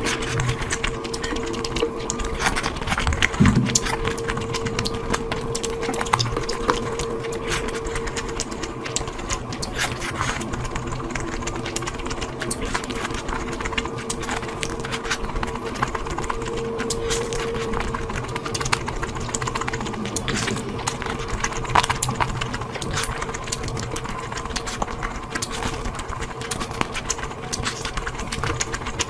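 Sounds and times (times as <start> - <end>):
faint hum: 0.0 - 29.0
wet chewing and lip-smacking: 0.0 - 29.0.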